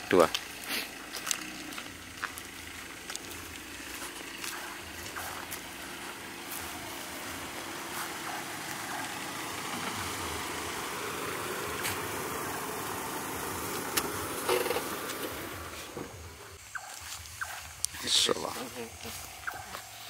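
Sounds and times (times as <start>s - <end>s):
engine-like hum and hiss: 0.0s - 20.0s.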